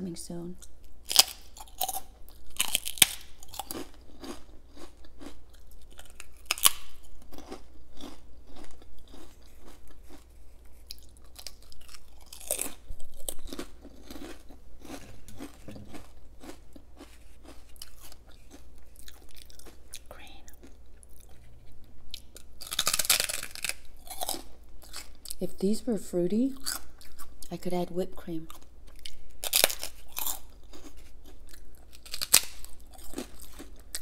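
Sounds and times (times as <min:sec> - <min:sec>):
crunching prawn crackers: 0:00.6 - 0:25.4, 0:28.5 - 0:34.0.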